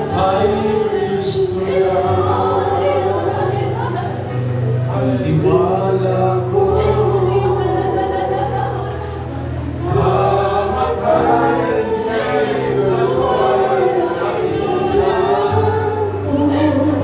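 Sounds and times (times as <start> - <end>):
congregation singing: 0.0 - 17.0
instrumental accompaniment: 0.0 - 17.0.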